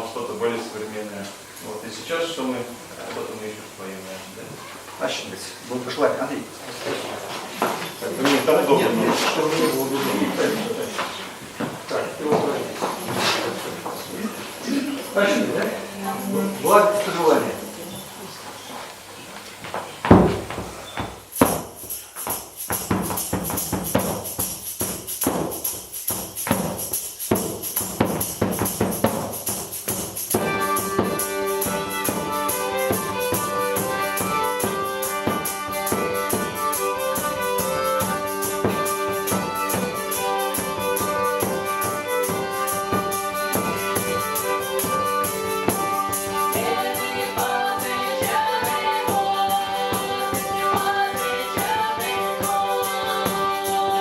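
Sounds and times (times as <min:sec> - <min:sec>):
folk ensemble playing: 0:06.6 - 0:18.4, 0:21.4 - 0:54.0
percussion beat: 0:07.9 - 0:18.2, 0:20.1 - 0:54.0.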